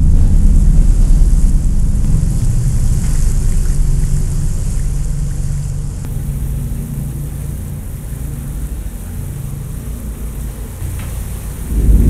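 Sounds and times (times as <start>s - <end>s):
faint hiss: 0.0s - 12.0s
loud low rumble: 0.0s - 12.0s.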